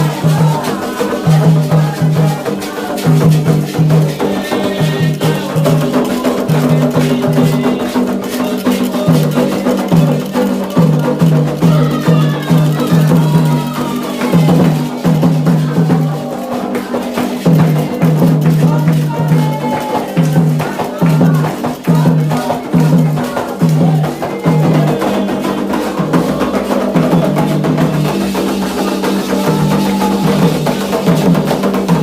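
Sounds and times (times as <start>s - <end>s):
hand drums beating fast rhythm: 0.0s - 32.0s
struck bell percussion: 0.0s - 32.0s
voices singing: 0.0s - 32.0s.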